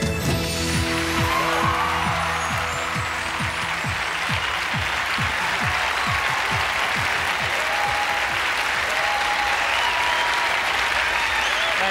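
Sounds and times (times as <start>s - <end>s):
audience applauding: 0.4s - 11.9s.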